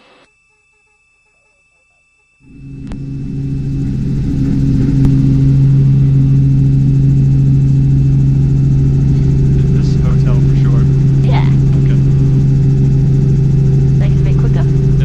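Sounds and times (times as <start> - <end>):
helicopter engine and rotors drone: 1.7 - 15.0.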